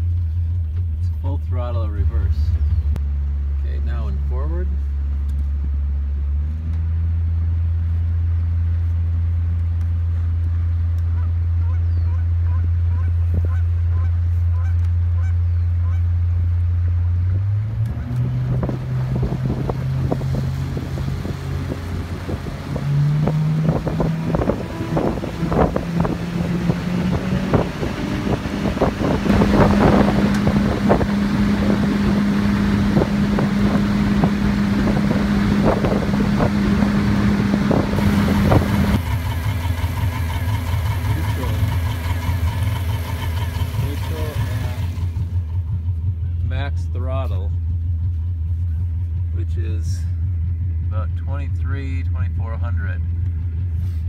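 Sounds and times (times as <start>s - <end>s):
outboard engine revving: 0.0s - 8.5s, 10.6s - 54.0s.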